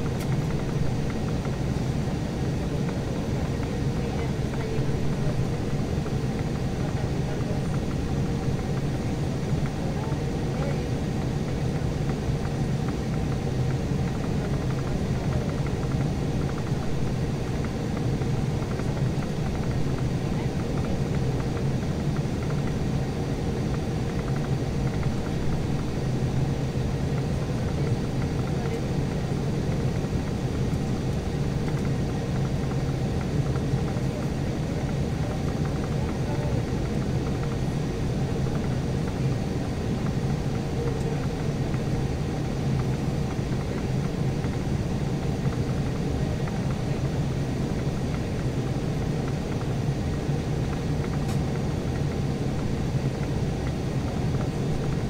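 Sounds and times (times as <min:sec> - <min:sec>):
jet cabin low rumble: 0:00.0 - 0:55.0.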